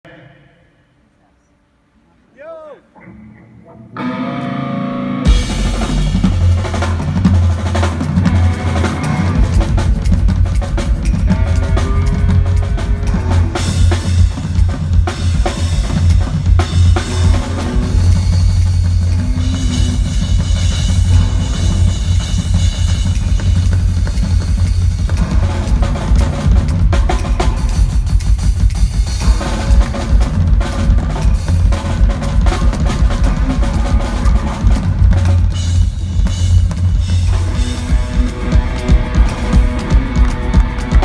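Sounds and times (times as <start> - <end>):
rock band playing: 4.0 - 41.0
kick and snare drum beat: 5.3 - 41.0.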